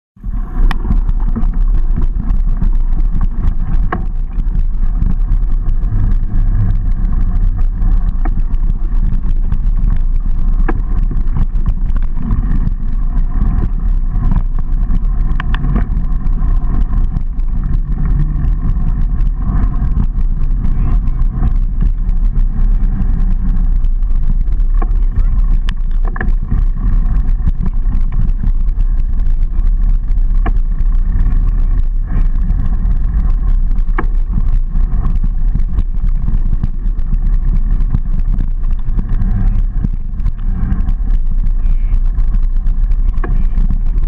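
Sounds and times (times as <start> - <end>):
bike knocks and rattles: 0.2 - 44.0
bike tyre noise on dirt: 0.2 - 44.0
wind rumble on microphone: 0.2 - 44.0.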